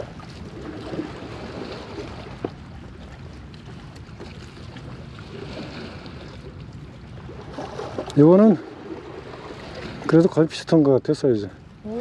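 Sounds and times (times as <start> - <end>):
seaside background noise: 0.0 - 12.0.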